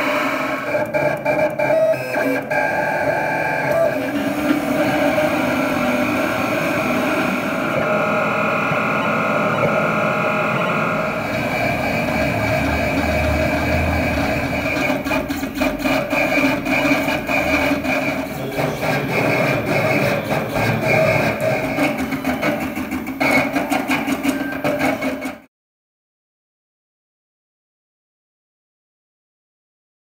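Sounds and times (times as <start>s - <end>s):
plotter motors whining: 0.0s - 25.4s.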